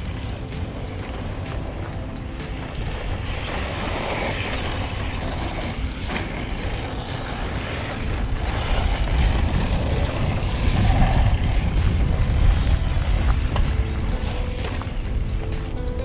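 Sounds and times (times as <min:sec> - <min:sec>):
electric motor whining: 0:00.0 - 0:15.5
toy truck low rumble: 0:00.0 - 0:16.0.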